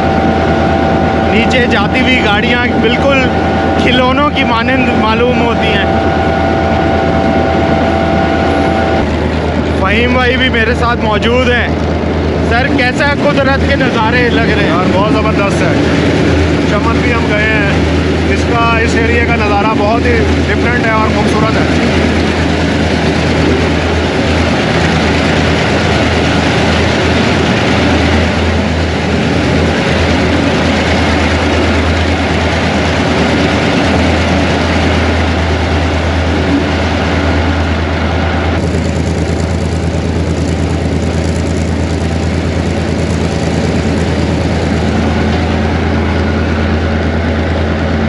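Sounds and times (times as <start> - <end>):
diesel locomotive engine drone: 0.0 - 48.0
train rail running noise: 0.0 - 48.0.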